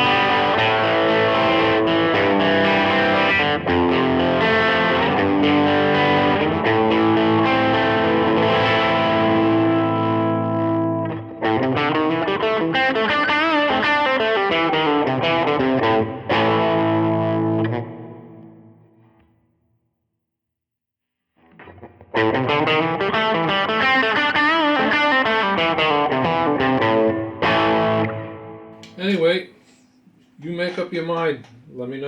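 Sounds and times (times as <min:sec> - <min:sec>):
distorted electric guitar: 0:00.0 - 0:19.0, 0:21.4 - 0:28.7.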